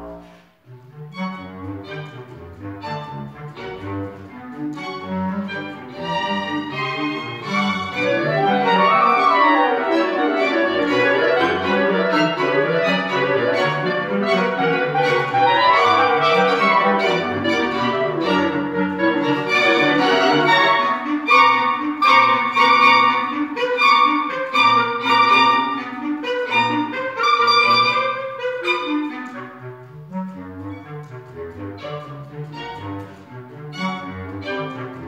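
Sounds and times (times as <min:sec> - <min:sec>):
clarinets and strings playing: 0:00.0 - 0:35.0.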